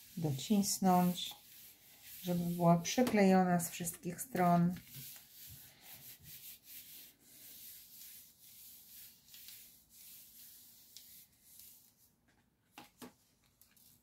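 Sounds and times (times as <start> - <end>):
palms rubbing on paper card: 0.0 - 12.1.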